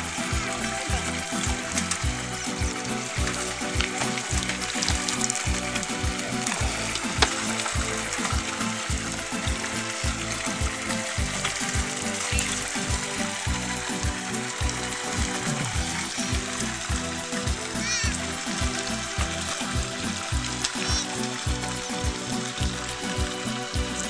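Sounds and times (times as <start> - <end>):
bass drum beat: 0.0 - 24.0
bass line: 0.0 - 24.0
constant hiss: 0.0 - 24.0.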